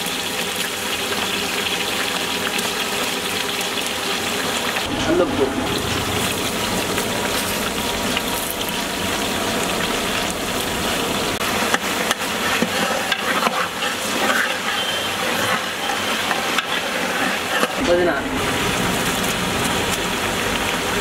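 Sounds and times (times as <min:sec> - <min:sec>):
pot of broth bubbling: 0:00.0 - 0:21.0.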